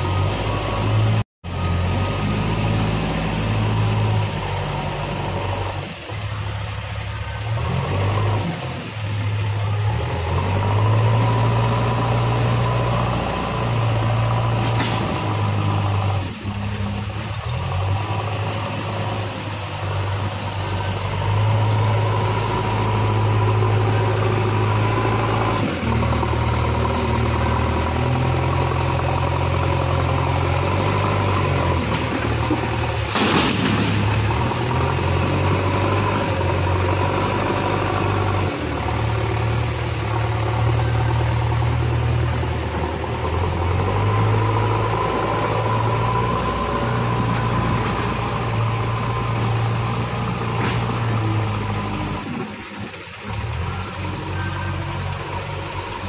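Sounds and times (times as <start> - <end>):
backhoe diesel engine working: 0.0 - 56.0.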